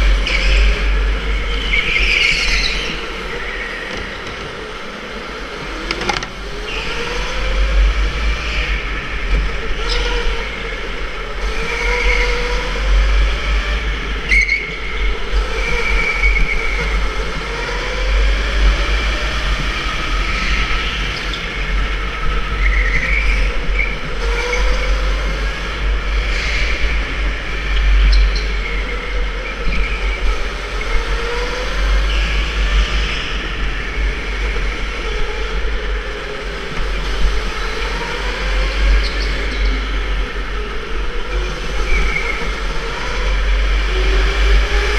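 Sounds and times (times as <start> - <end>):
go-kart electric motor whining: 0.0 - 44.9
wind rumble on microphone: 0.0 - 44.9.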